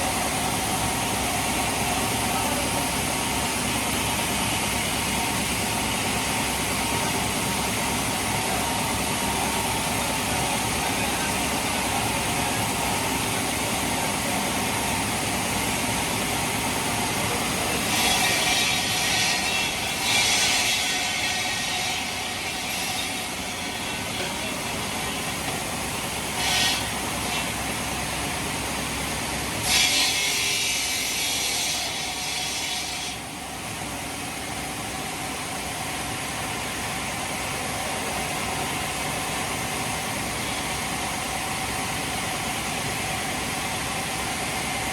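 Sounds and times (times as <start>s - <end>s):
heavy machinery running: 0.0s - 44.9s.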